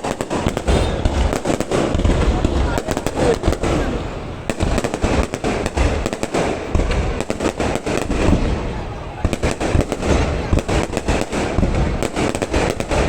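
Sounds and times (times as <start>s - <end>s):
deep fireworks booms: 0.0s - 13.0s
fireworks bangs and crackles: 0.0s - 13.0s.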